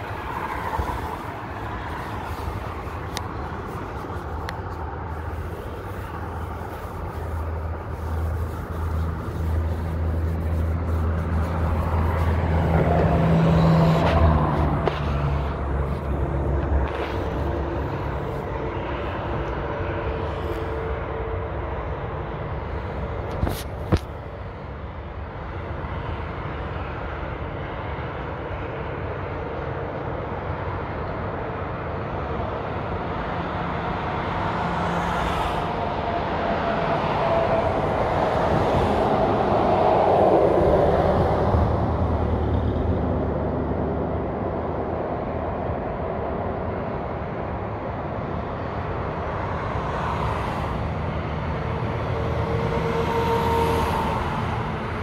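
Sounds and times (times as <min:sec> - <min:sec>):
highway traffic: 0:00.0 - 0:55.0.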